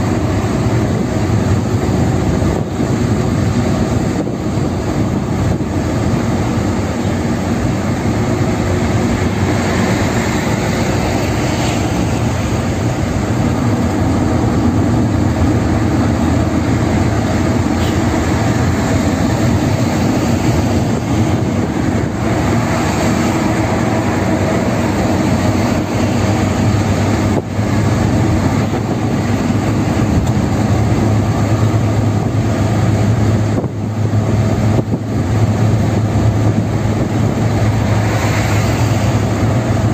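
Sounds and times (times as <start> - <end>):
car road noise drone: 0.0 - 39.9.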